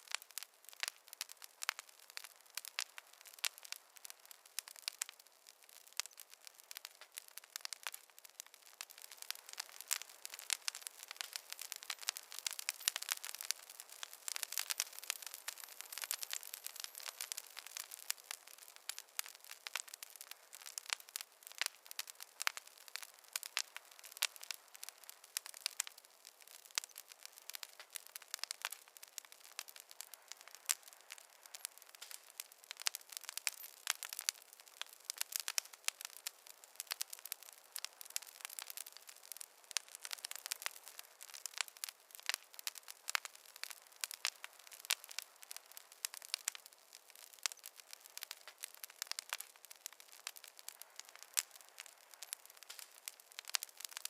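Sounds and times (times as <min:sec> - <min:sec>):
faint fire hiss: 0:00.0 - 0:54.0
wood fire crackling and popping: 0:00.0 - 0:54.0.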